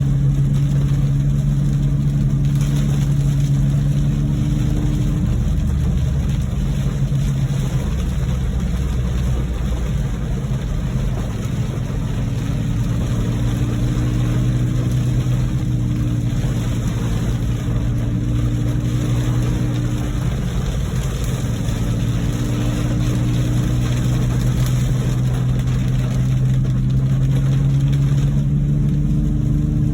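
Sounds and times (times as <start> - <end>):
car engine drone: 0.0 - 29.9
road noise: 0.0 - 29.9.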